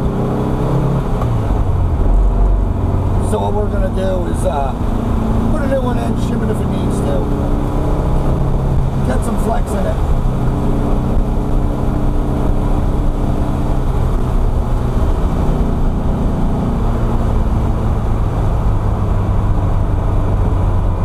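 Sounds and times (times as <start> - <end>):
car engine running: 0.0 - 21.0
tyre and road noise: 0.0 - 21.0.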